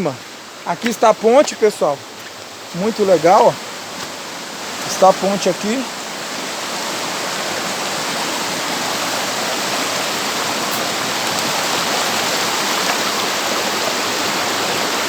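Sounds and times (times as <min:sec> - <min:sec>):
river water running over rocks: 0:00.0 - 0:15.0.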